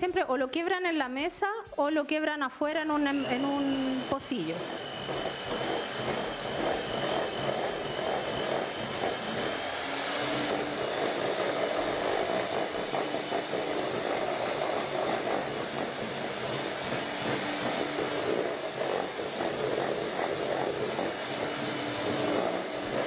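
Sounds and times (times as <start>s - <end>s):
electric hand mixer running: 2.7s - 23.0s.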